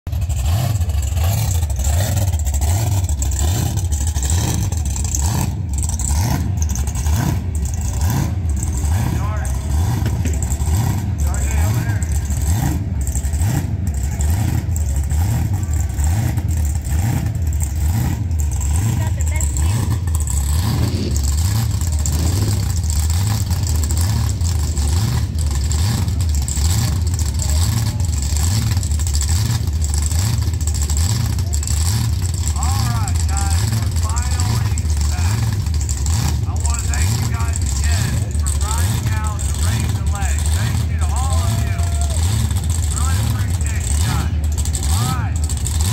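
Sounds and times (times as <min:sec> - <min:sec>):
car engine rumbling rhythmically: 0:00.0 - 0:45.9.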